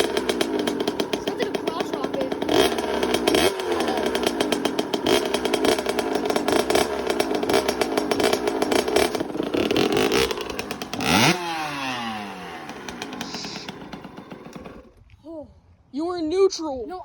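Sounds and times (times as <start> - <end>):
dirt bike engine revving: 0.0 - 15.1.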